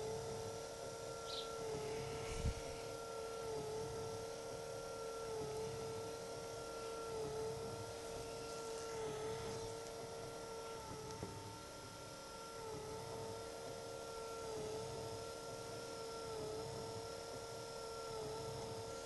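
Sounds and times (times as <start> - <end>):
milling machine motor whine: 0.0 - 19.0.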